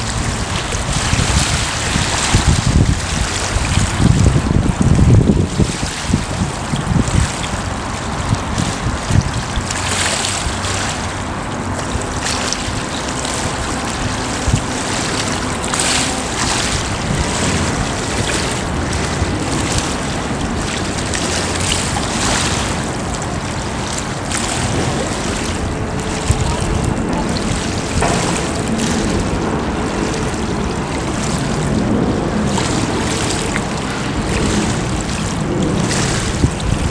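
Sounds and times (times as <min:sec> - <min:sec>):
water washing and splashing: 0:00.0 - 0:36.9.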